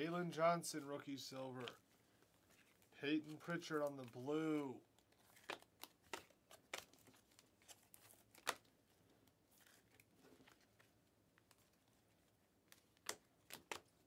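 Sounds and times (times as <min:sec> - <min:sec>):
cards sliding and rustling: 0:01.6 - 0:14.0.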